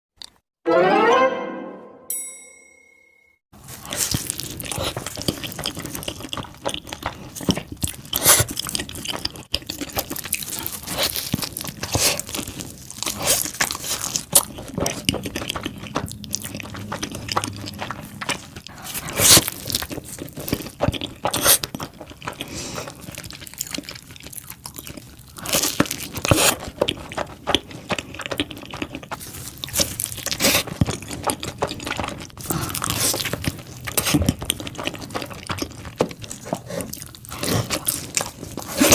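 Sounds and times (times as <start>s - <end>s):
person chewing and crunching food: 3.6s - 38.9s.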